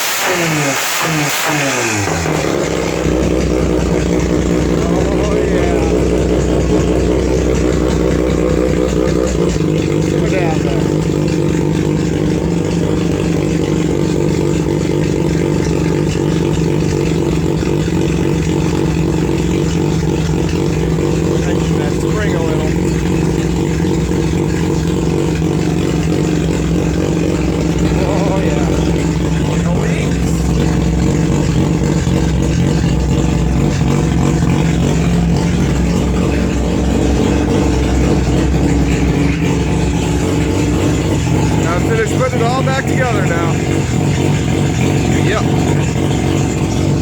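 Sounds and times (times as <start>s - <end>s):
rotary race car engine running: 0.0s - 47.0s.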